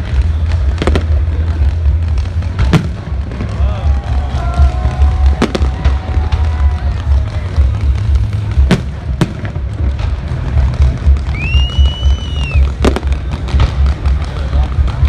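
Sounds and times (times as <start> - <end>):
fireworks bursting: 0.0 - 15.0
music with pulsing bass beat: 0.0 - 15.0.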